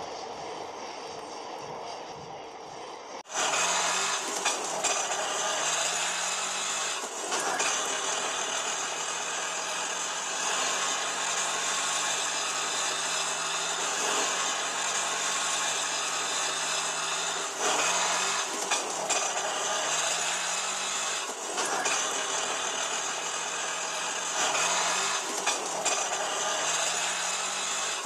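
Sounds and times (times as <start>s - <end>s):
small motor whirring: 0.0s - 28.0s.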